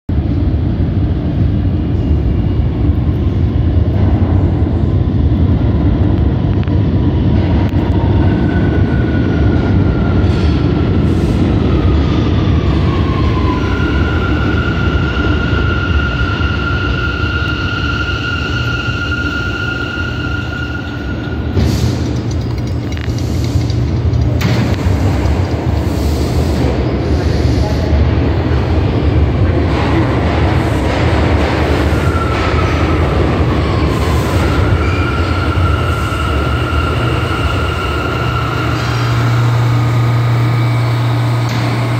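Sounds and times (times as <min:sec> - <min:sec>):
high train whine: 0:00.1 - 0:41.9
train wheels rumbling on rails: 0:00.1 - 0:41.9.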